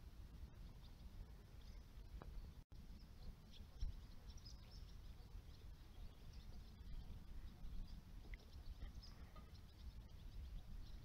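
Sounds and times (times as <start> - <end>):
faint small birds chirping: 0.0 - 11.0.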